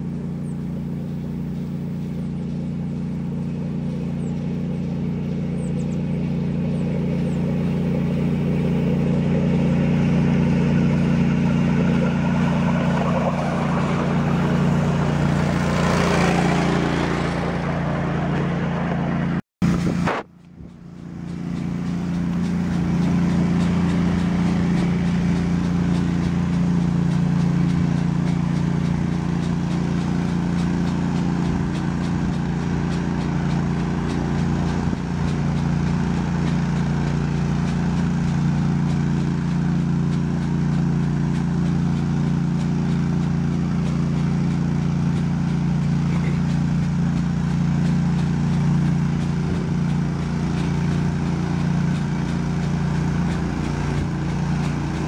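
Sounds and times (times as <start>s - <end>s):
small engine humming: 0.0s - 55.0s
broad rushing noise: 6.3s - 55.0s.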